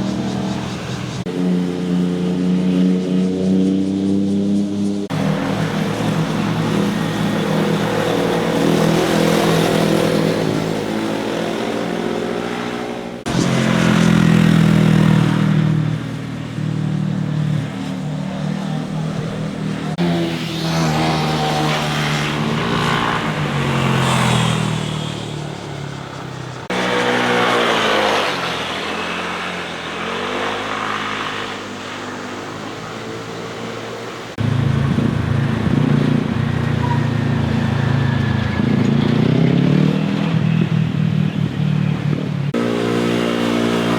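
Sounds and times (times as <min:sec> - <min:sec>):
motorcycles revving past: 0:00.0 - 0:43.9.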